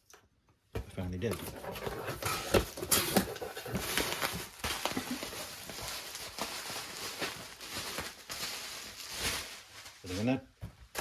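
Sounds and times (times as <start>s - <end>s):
package rustling: 1.5s - 11.0s.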